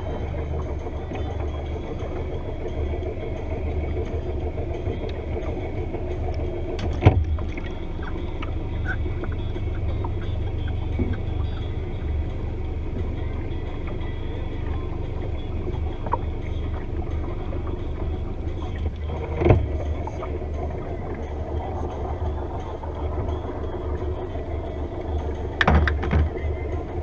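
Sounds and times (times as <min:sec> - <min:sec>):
boat low rumble: 0:00.0 - 0:27.0.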